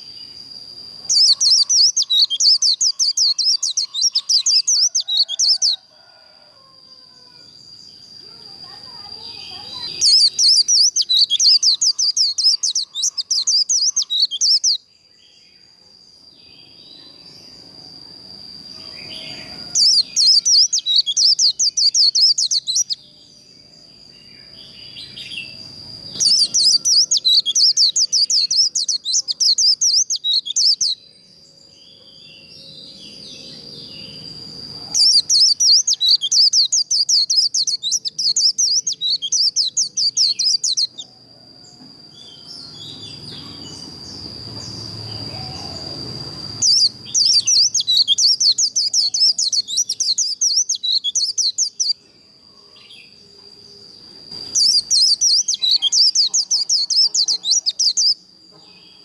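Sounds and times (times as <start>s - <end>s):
bird warbling song: 1.0s - 5.9s, 8.3s - 14.8s, 18.7s - 23.1s, 24.2s - 41.1s, 42.2s - 52.0s, 54.3s - 59.0s.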